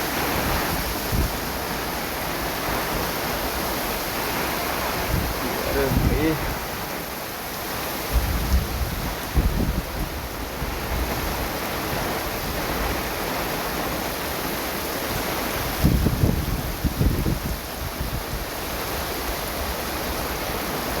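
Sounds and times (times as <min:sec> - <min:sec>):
heavy rain hissing: 0:00.0 - 0:21.0
rushing rainwater: 0:00.0 - 0:21.0
wind buffeting microphone: 0:00.0 - 0:21.0.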